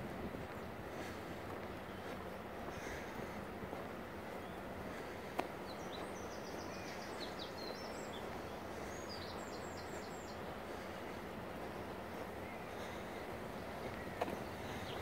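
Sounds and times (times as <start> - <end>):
outdoor background hiss: 0.0 - 15.0
songbird singing: 0.5 - 15.0.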